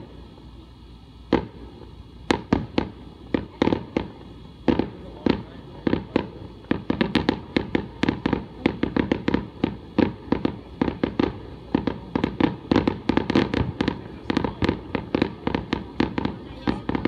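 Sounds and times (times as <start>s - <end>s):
fireworks bangs: 1.3s - 17.0s.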